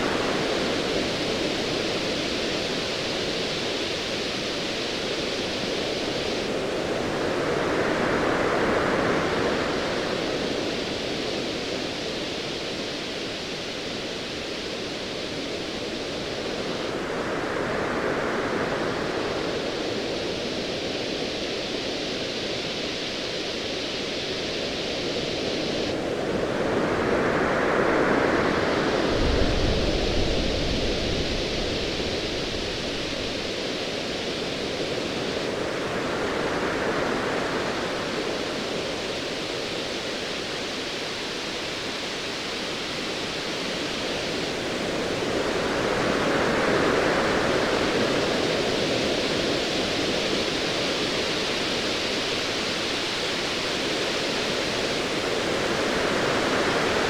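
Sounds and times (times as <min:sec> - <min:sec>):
surf hiss: 0:00.0 - 0:57.0.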